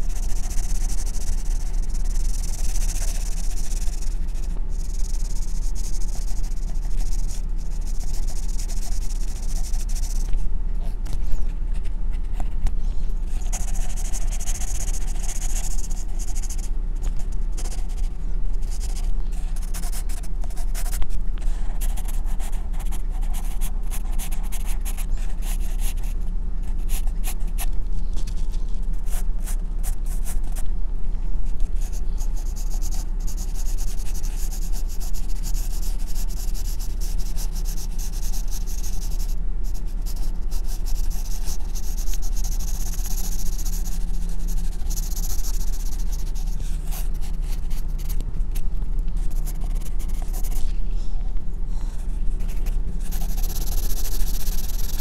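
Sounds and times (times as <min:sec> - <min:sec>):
pencil scratching on paper: 0:00.0 - 0:10.4, 0:13.3 - 0:21.0, 0:21.7 - 0:27.6, 0:31.6 - 0:48.2, 0:49.2 - 0:50.7, 0:52.3 - 0:55.0
steady low hum: 0:00.0 - 0:55.0.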